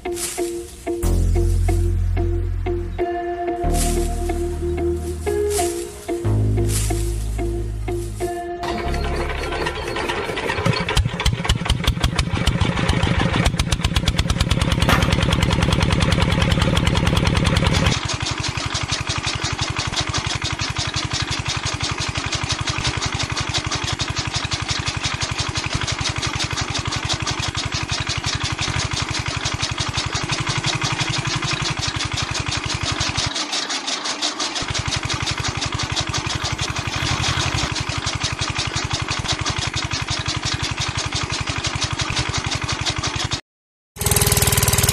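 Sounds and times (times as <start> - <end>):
small engine running: 0.0 - 43.4, 44.0 - 44.9.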